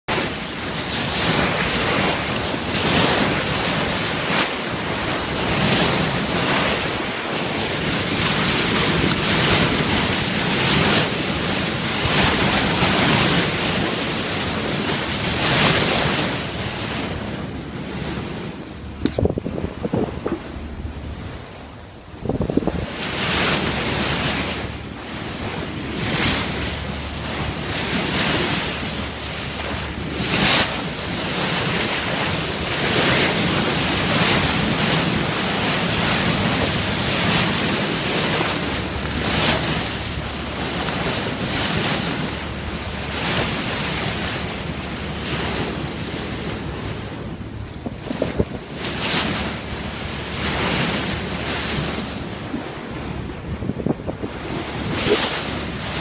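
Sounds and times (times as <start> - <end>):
water rushing along boat bow: 0.0 - 56.0
wind buffeting microphone: 0.1 - 56.0.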